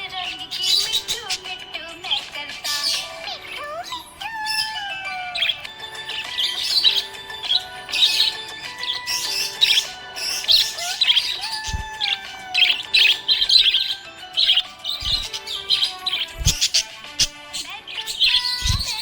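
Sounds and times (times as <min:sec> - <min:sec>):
budgerigar chirping and warbling: 0:00.0 - 0:19.0.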